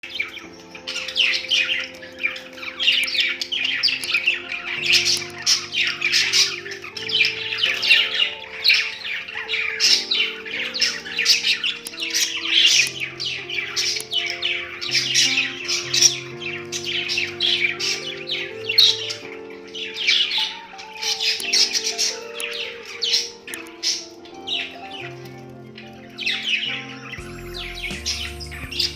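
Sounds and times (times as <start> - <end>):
background music of held notes: 0.0 - 28.9.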